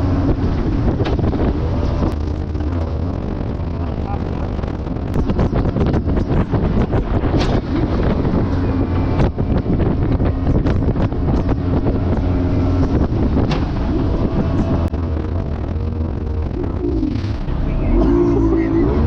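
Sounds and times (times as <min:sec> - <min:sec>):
boat engine running: 0:00.0 - 0:19.0
wind buffeting microphone: 0:00.0 - 0:19.0
sharp knocks and crackles: 0:00.3 - 0:17.8.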